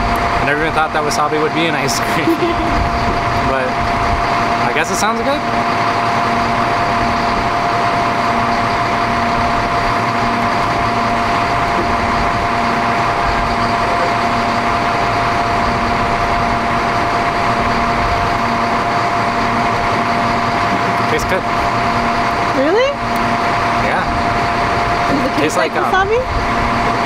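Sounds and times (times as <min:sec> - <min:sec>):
bus engine idling: 0:00.0 - 0:27.0.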